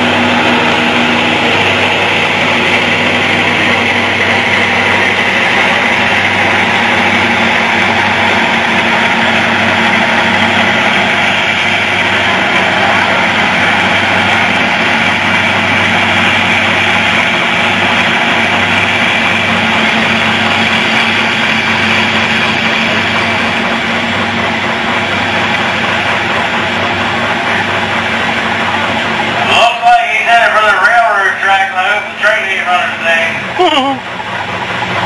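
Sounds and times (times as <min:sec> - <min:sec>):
tractor engine running under load: 0:00.0 - 0:35.0.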